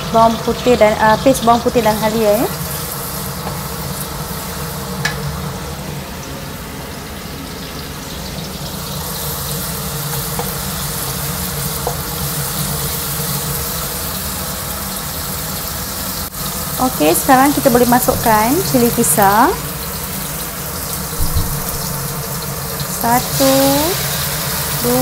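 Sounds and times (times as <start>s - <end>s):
onions sizzling in hot oil: 0.0s - 25.0s.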